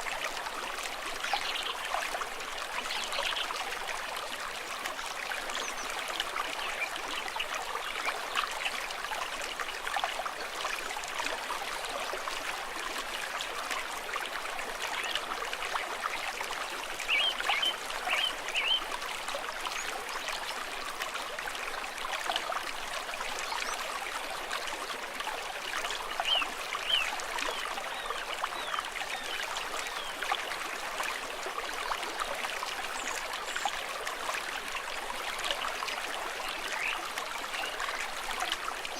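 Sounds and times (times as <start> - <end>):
stream trickling and babbling: 0.0 - 38.9.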